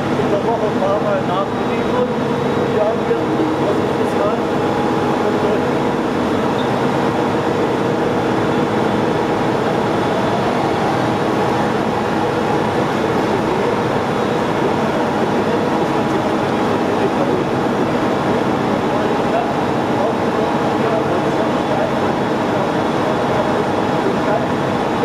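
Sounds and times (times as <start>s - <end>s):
printing machinery humming: 0.0s - 25.0s.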